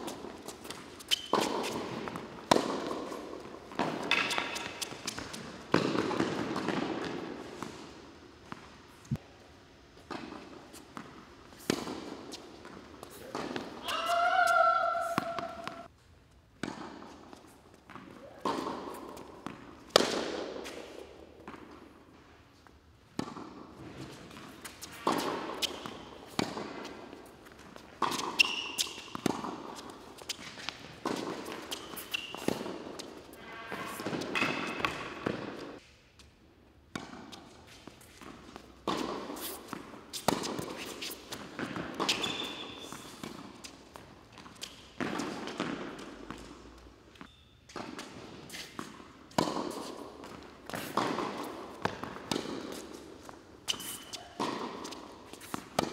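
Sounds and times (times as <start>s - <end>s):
tennis ball hits and bounces: 0.0s - 9.2s, 10.0s - 15.9s, 16.6s - 22.0s, 23.1s - 35.9s, 36.9s - 55.9s.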